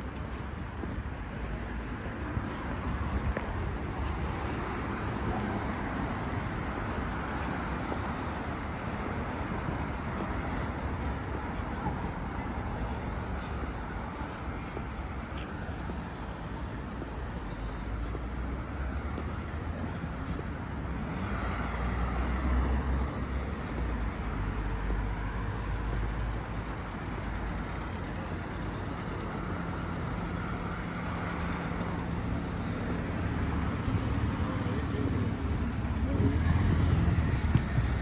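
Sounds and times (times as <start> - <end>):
vehicles driving past: 0.0 - 38.0.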